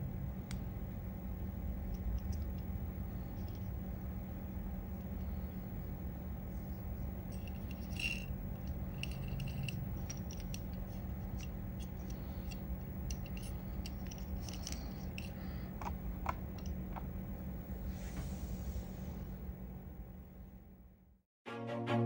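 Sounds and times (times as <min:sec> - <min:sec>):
low hum: 0:00.0 - 0:21.2.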